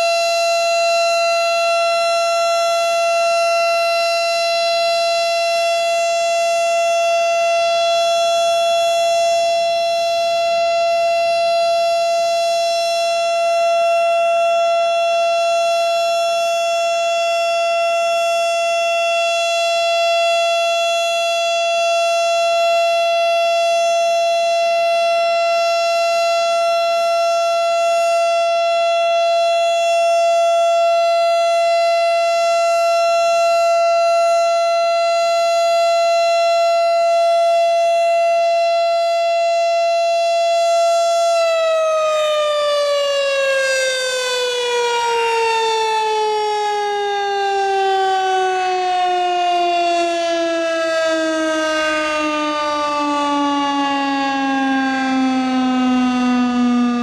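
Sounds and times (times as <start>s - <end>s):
warning siren steady tone: 0.0s - 57.0s.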